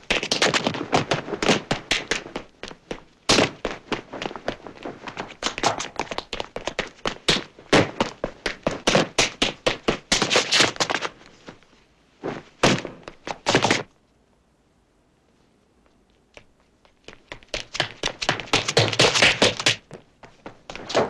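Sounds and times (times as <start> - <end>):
hard-soled running footsteps: 0.0 - 11.7, 12.4 - 13.9, 15.8 - 21.0.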